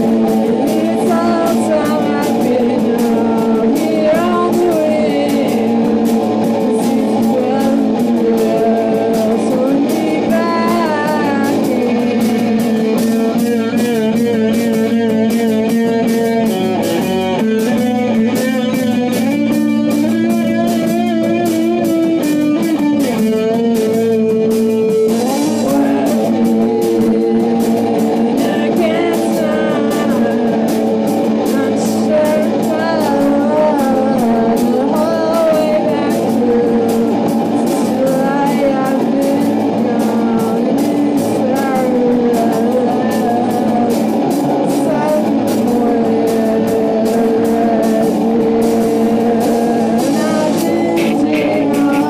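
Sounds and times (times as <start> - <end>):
bass guitar: 0.0 - 52.0
electric guitars: 0.0 - 52.0
steady drumbeat: 0.0 - 52.0.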